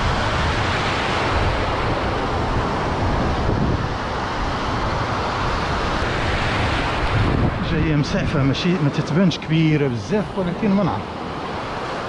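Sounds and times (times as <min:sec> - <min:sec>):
surf washing over sand: 0:00.0 - 0:12.0
wind rumbling on microphone: 0:00.0 - 0:12.0.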